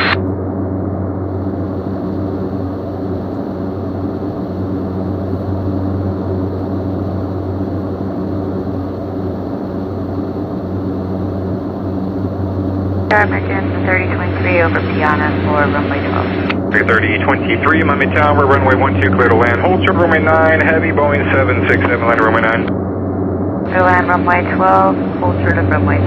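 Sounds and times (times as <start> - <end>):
distant engine rumble: 0.0 - 26.0.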